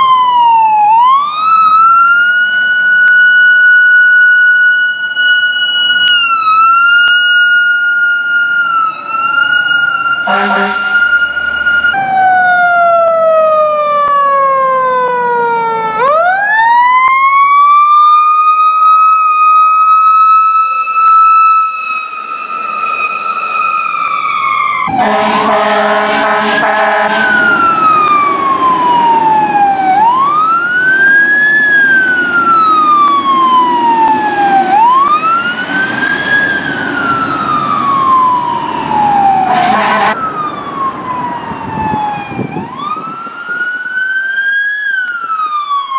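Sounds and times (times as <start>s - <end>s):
fire truck siren: 0.0s - 45.9s
wailing siren: 0.0s - 45.9s.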